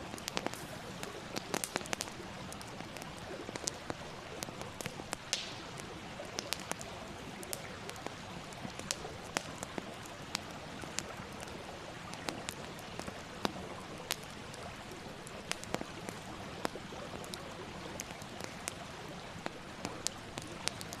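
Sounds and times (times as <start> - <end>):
campfire hissing: 0.0 - 21.0
fire crackling and popping: 0.0 - 21.0.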